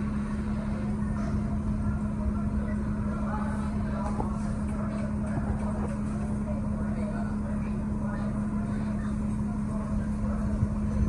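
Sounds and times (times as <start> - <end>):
subway train humming: 0.0 - 11.0.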